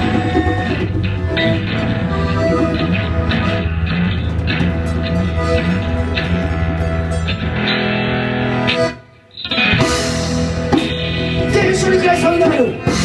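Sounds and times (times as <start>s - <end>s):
distorted electric guitar: 0.0s - 13.0s
rock band playing: 0.0s - 13.0s.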